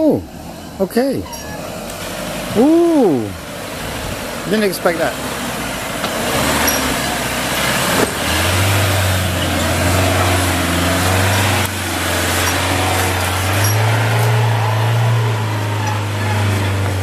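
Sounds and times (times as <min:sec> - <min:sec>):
diesel engine running at low revs: 0:01.7 - 0:17.0.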